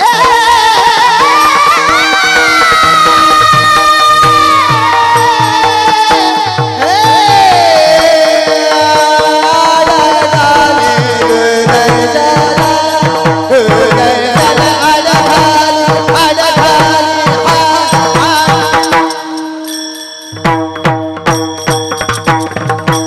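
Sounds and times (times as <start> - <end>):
person singing: 0.0 - 19.7.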